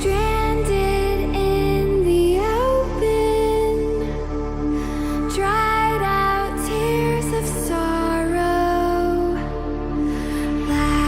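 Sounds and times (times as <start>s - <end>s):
gliding melody: 0.0s - 11.0s
low drone: 0.0s - 11.0s.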